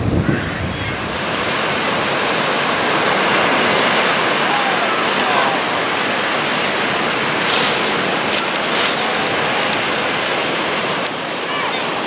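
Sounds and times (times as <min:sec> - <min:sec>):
surf waves breaking on beach: 0:00.0 - 0:12.0
water splashes: 0:00.9 - 0:12.0.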